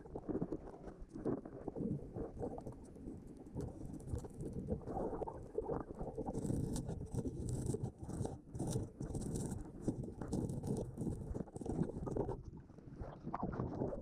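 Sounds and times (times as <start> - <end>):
muffled underwater rumbling: 0.0 - 14.0.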